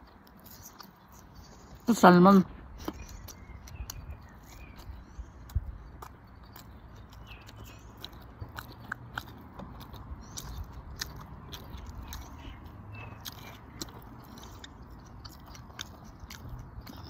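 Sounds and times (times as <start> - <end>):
mouth clicks and smacks: 0.0 - 1.9, 2.6 - 17.0
person chewing food: 0.0 - 1.9, 2.6 - 17.0.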